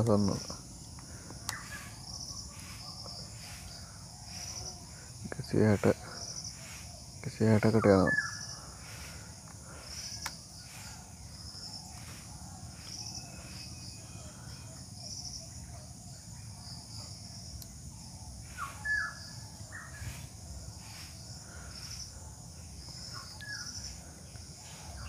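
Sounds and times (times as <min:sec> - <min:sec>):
bird chirps: 0:00.0 - 0:25.0
insects chirping: 0:00.0 - 0:25.0
steady low hum: 0:00.0 - 0:25.0.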